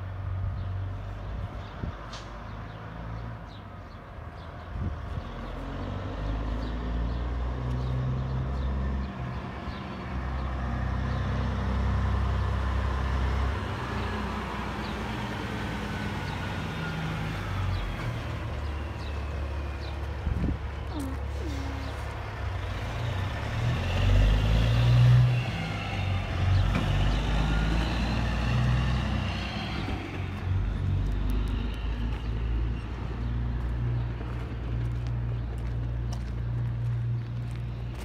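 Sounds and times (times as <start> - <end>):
truck diesel engine passing: 0.0 - 38.0.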